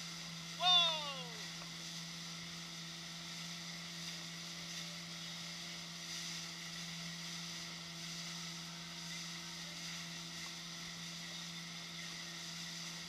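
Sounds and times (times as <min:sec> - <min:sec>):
motorboat engine humming: 0:00.0 - 0:12.7
water and wind hiss: 0:00.0 - 0:13.0.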